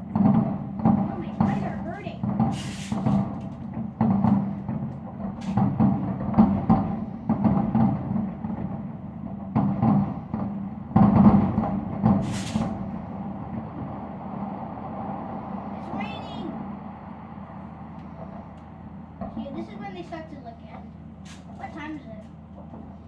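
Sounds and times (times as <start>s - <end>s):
fireworks booming: 0.0s - 22.0s
low hum: 0.0s - 23.0s.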